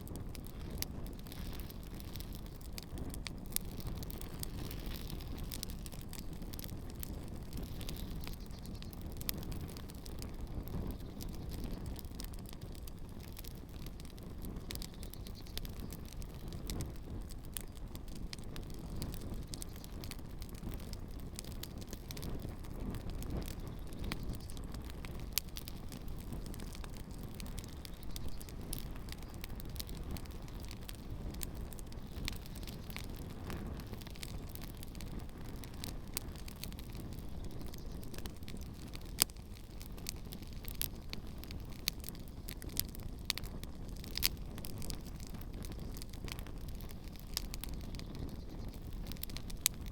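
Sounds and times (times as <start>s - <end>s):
campfire crackling and popping: 0.0s - 49.9s
low steady fire rumble: 0.0s - 49.9s.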